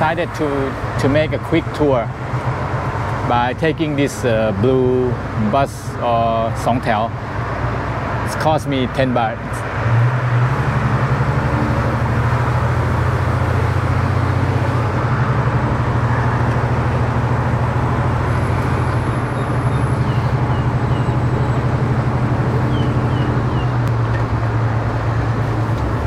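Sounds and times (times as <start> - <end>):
bus engine humming: 0.0 - 26.0
road and wind noise: 0.0 - 26.0.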